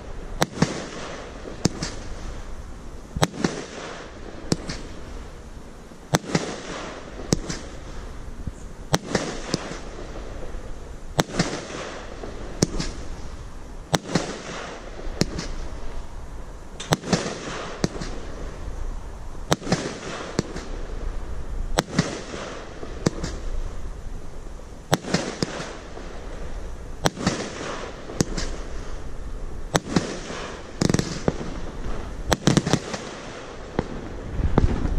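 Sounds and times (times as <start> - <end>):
firework bangs: 0.0 - 5.4, 6.0 - 16.2, 16.8 - 34.9
firework hiss: 0.0 - 34.9.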